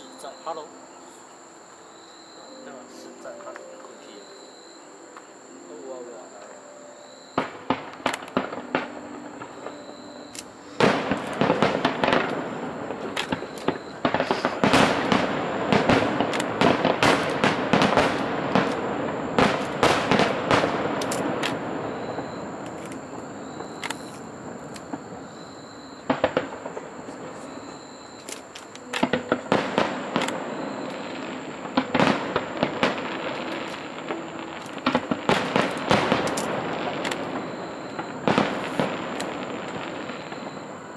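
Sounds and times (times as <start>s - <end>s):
fireworks bangs and crackling: 7.3s - 40.9s.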